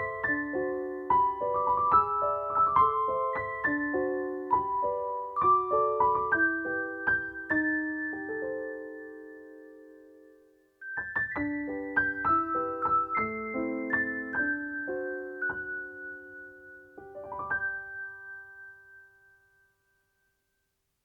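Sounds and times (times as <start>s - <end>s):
soft solo piano: 0.0s - 19.5s.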